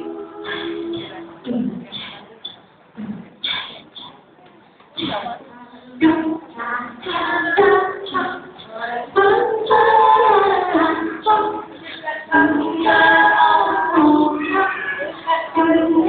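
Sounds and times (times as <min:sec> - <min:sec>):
high voice singing: 0:00.0 - 0:04.2, 0:05.0 - 0:16.0
backing music: 0:00.0 - 0:04.4, 0:06.0 - 0:16.0.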